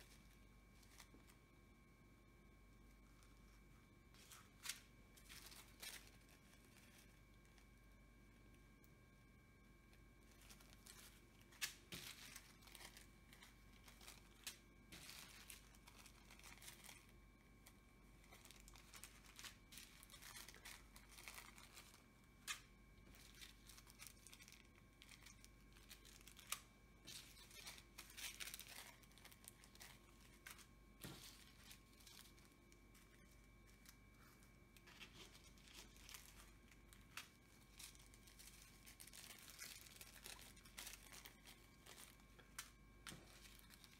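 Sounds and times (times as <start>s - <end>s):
plastic bags crinkling: 0.0s - 1.5s, 3.2s - 7.8s, 9.9s - 43.9s.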